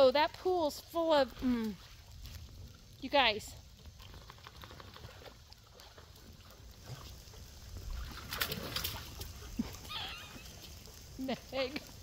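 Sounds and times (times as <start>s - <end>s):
water splashing in pool: 1.0s - 12.0s.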